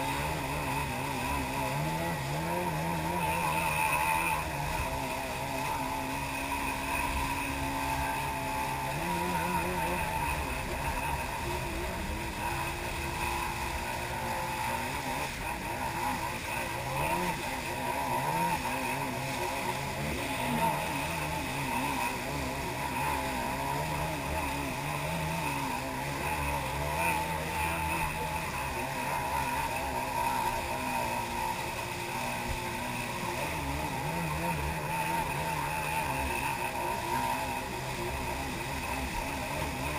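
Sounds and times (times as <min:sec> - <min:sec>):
jet ski engine running: 0:00.0 - 0:39.9
water rushing: 0:00.0 - 0:39.9.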